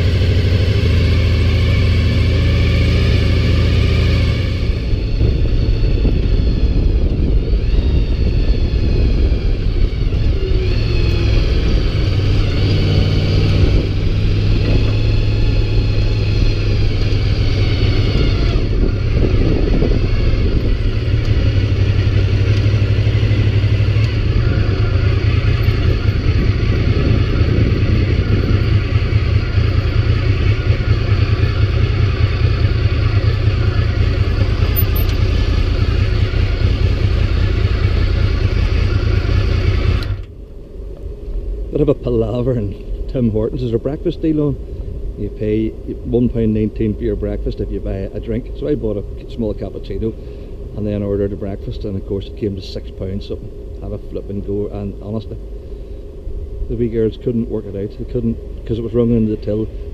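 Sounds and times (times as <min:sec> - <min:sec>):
heavy low rumble: 0:00.0 - 0:59.9
motorcycle engine accelerating: 0:00.0 - 0:59.9.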